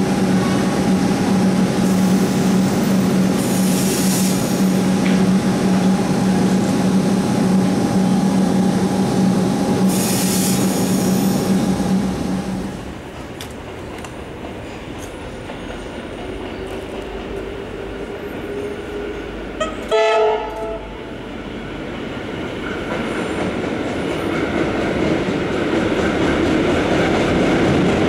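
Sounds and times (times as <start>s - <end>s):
electric train hum: 0.0s - 28.0s
train wheels rumbling on track: 0.0s - 28.0s.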